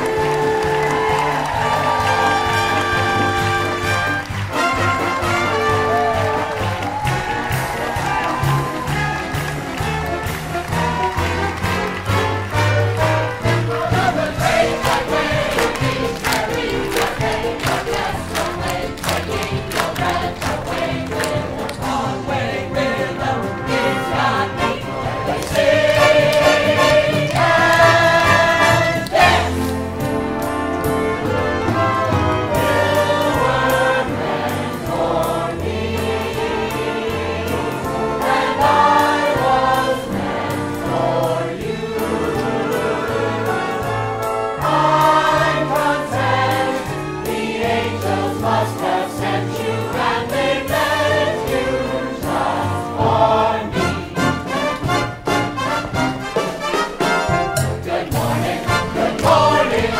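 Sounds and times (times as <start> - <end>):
group of voices singing: 0.0 - 29.8, 31.7 - 55.2, 56.1 - 59.9
instrumental accompaniment: 0.0 - 59.9.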